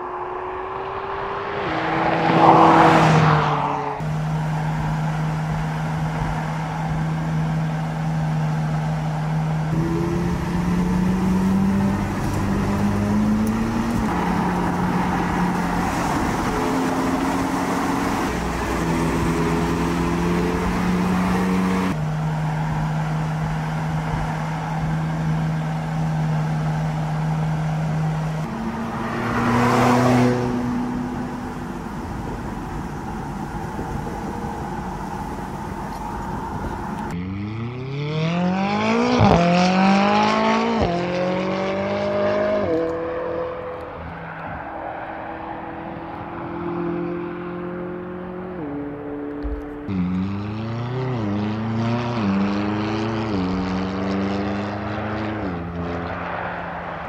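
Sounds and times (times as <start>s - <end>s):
sports car engine: 0.0s - 57.0s.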